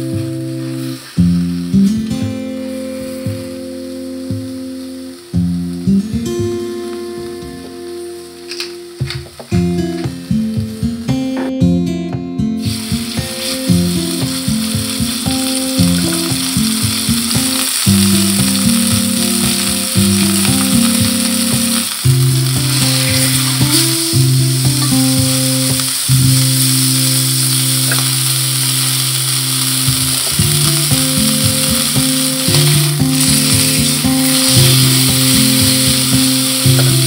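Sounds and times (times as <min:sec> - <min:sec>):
steak sizzling in a pan: 0:00.0 - 0:10.6, 0:12.6 - 0:37.0
background music: 0:00.0 - 0:37.0.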